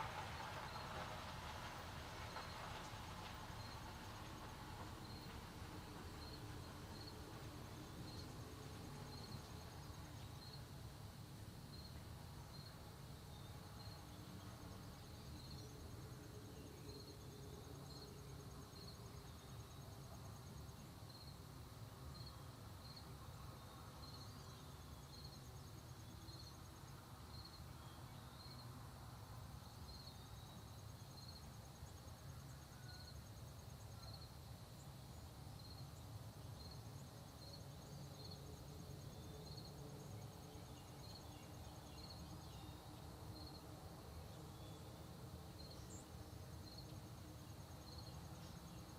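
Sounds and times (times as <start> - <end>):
insects chirping: 0.0 - 48.9.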